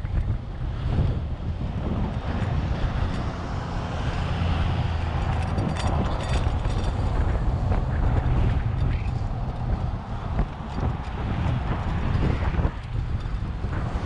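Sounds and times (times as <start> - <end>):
road traffic going by: 0.0 - 14.0
wind buffeting microphone: 0.0 - 14.0.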